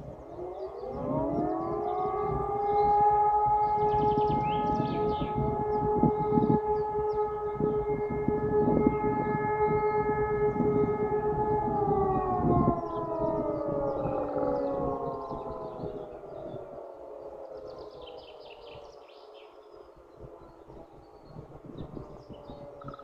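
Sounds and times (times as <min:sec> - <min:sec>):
siren winding down: 0:00.0 - 0:18.6.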